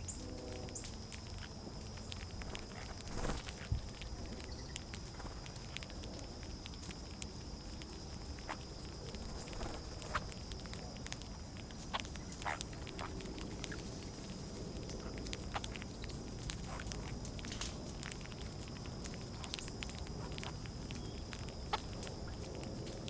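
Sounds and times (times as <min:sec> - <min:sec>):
bird chips and clicks: 0:00.0 - 0:23.0
high-pitched insect chorus: 0:00.0 - 0:23.0.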